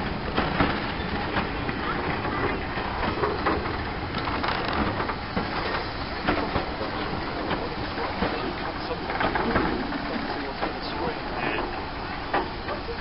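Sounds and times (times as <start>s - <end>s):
train rumble: 0.0s - 13.0s
train wheels clattering over rail joints: 0.0s - 13.0s.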